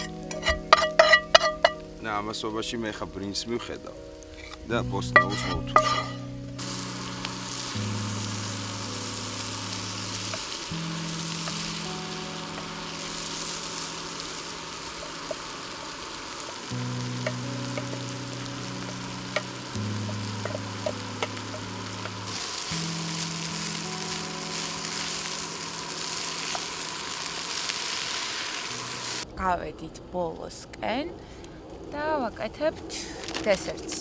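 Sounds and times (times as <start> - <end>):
vegetables sizzling in a pan: 0.0 - 2.3, 4.0 - 29.3, 32.9 - 34.0
soft music of low chords: 0.0 - 32.3.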